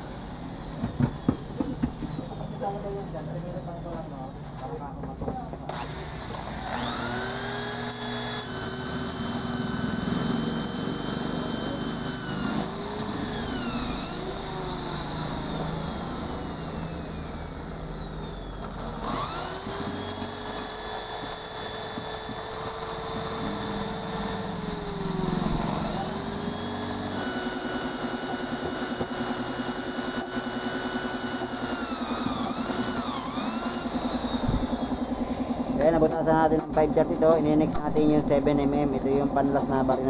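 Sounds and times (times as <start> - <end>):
electric drill boring into metal: 0.0 - 4.3, 5.6 - 40.0.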